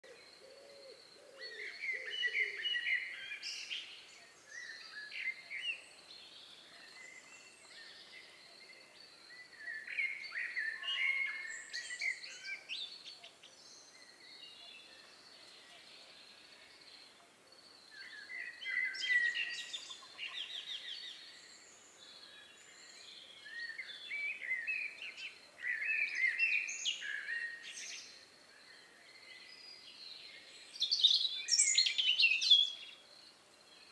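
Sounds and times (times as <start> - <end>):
songbird chirping: 0.0 - 33.9.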